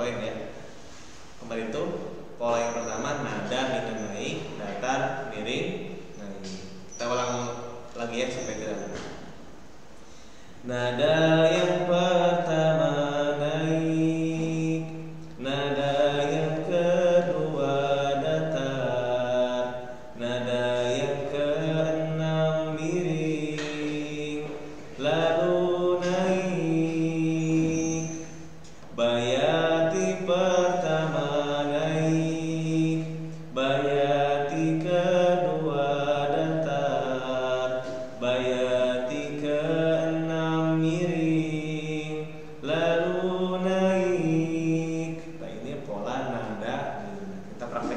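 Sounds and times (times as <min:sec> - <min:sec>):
man chanting melodically: 0:00.0 - 0:00.7, 0:01.4 - 0:09.3, 0:10.6 - 0:47.9.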